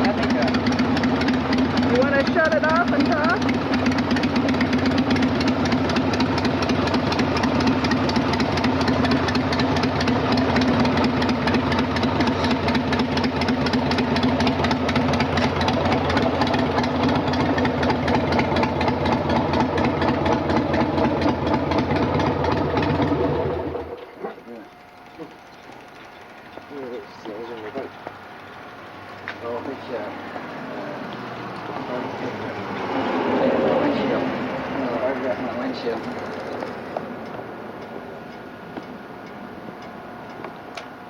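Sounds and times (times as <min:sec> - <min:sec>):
motorcycle engine idling: 0:00.0 - 0:41.0.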